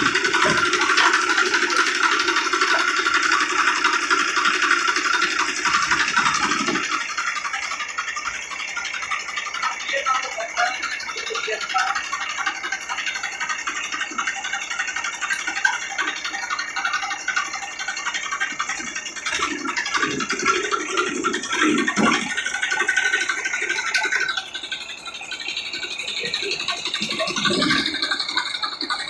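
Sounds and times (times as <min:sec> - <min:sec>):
tractor diesel engine clattering: 0:00.0 - 0:29.0.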